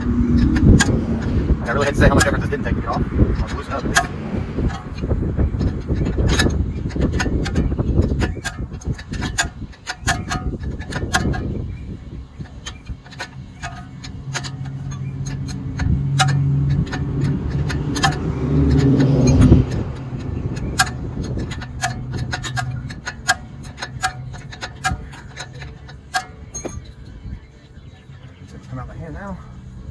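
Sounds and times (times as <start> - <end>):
hand ratchet clicking: 0.0 - 11.6, 12.4 - 26.9
low engine hum: 0.0 - 29.9.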